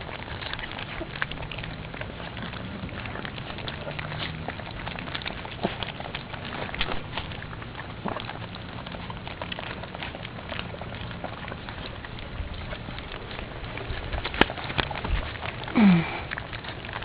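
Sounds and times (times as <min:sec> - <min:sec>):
puppies' claws scratching and pattering: 0:00.0 - 0:17.0.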